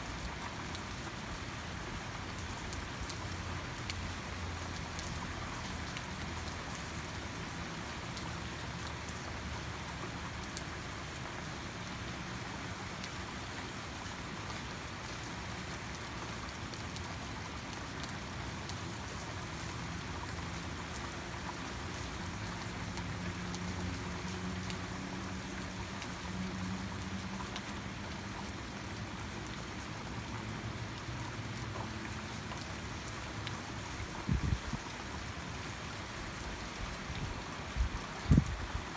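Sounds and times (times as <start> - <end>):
rain drops ticking on hard surface: 0.0 - 38.9.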